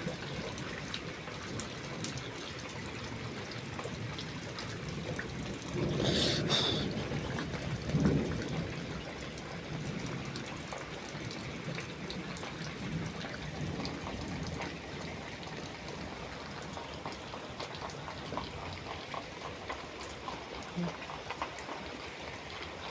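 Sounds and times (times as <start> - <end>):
heavy rain: 0.0 - 22.9
water trickling: 0.0 - 22.9.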